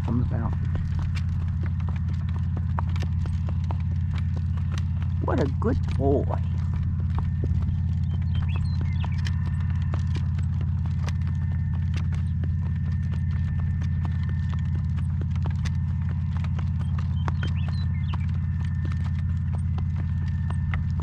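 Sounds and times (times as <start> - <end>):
horse hooves clopping: 0.0 - 21.0
wind rumbling on microphone: 0.0 - 21.0.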